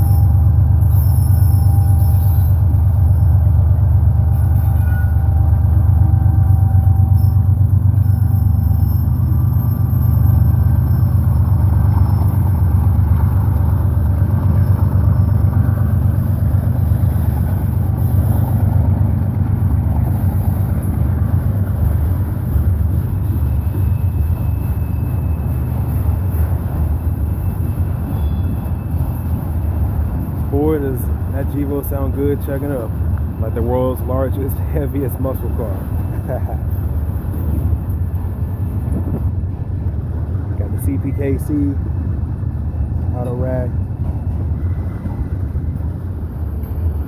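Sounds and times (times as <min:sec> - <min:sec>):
diesel locomotive engine chugging: 0:00.0 - 0:47.0.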